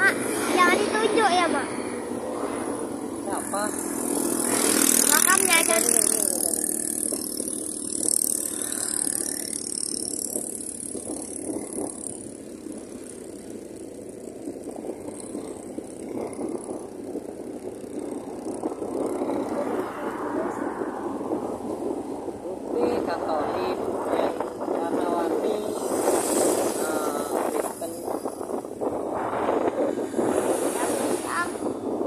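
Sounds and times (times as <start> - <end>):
vehicle rushing on road: 0.0 - 32.0.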